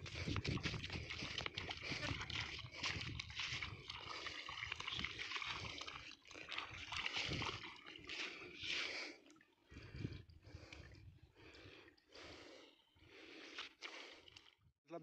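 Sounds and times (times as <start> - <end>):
cows drinking: 0.0 - 14.6
muddy water sloshing: 0.0 - 14.6.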